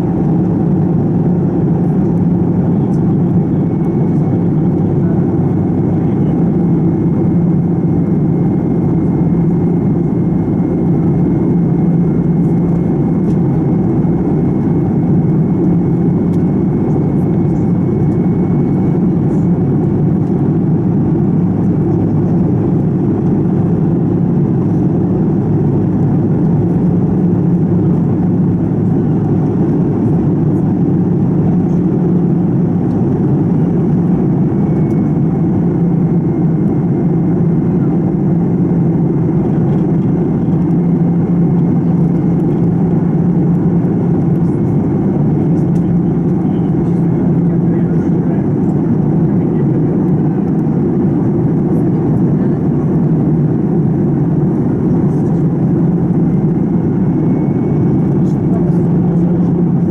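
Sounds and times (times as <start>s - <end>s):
turbofan engine drone in cabin: 0.0s - 59.9s.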